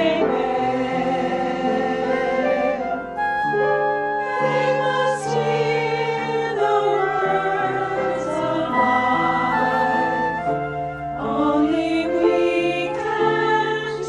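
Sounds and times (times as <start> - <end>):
choir singing a hymn: 0.0 - 14.0.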